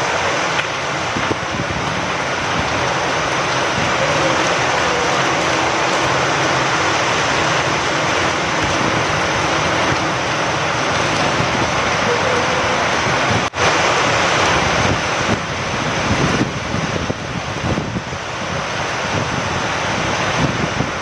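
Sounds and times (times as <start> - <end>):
heavy rain: 0.0 - 21.0
wind: 0.0 - 21.0.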